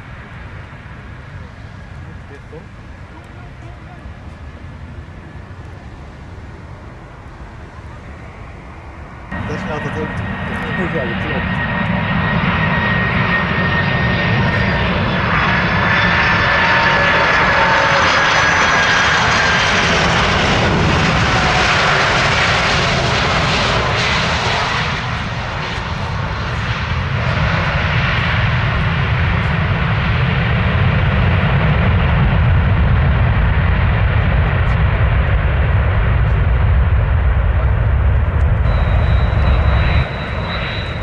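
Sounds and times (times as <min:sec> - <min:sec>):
jet engines rumbling and whining: 0:00.0 - 0:41.0.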